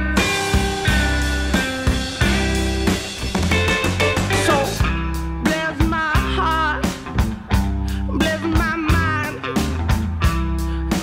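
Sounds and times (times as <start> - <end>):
rock song with singing: 0.0 - 11.0.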